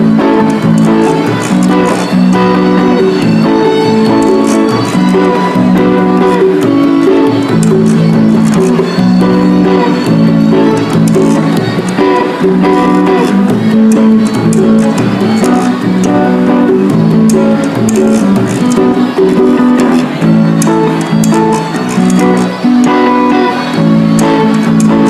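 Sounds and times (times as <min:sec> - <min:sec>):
plucked string music: 0:00.0 - 0:25.0.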